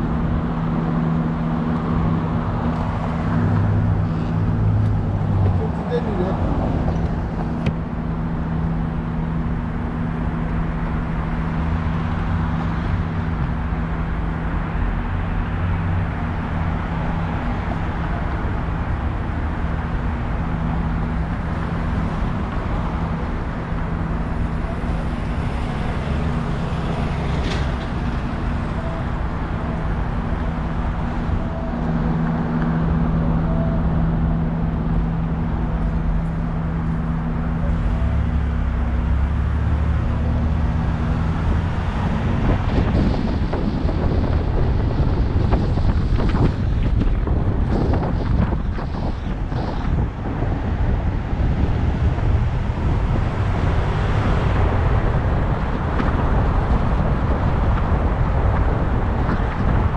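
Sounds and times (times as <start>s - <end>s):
car road and engine noise: 0.0s - 59.9s
wind buffeting microphone: 0.0s - 59.9s.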